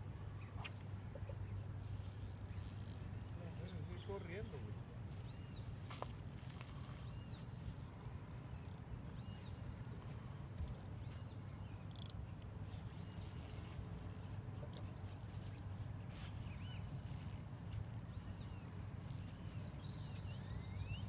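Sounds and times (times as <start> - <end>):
low outdoor background rumble: 0.0 - 21.0
bird chirping: 0.4 - 15.6, 16.2 - 21.0.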